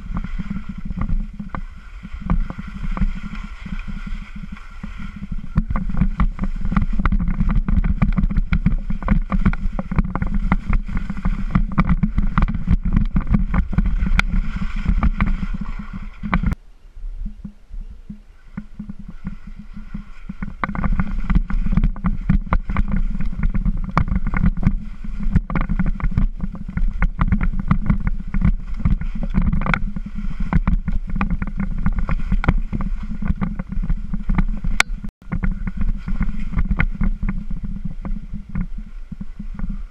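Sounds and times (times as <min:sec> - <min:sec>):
skis scraping over crusty snow: 0:00.0 - 0:16.6, 0:18.3 - 0:39.9
wind buffeting microphone: 0:00.0 - 0:39.9.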